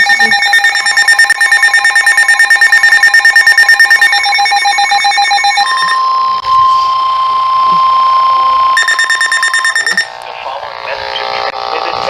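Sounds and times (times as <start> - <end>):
steady alert tone: 0.0 - 10.2
pulsing electronic alarm tone: 0.0 - 10.3.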